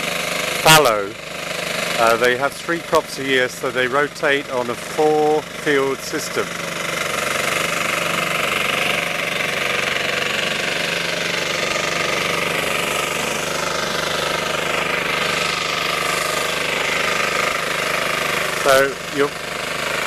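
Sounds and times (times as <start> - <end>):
ploughing machine engine chugging: 0.0 - 20.0.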